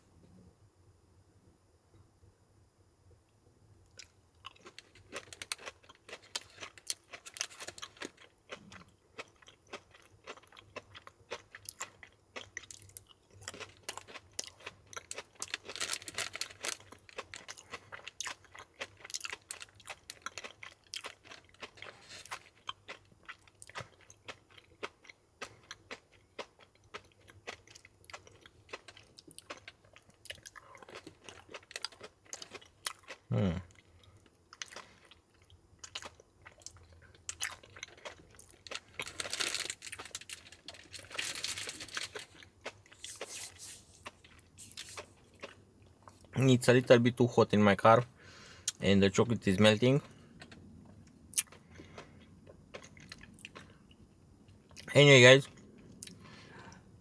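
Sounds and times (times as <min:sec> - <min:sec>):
person chewing crunchy chocolates: 0:03.9 - 0:46.8, 0:49.9 - 0:57.0.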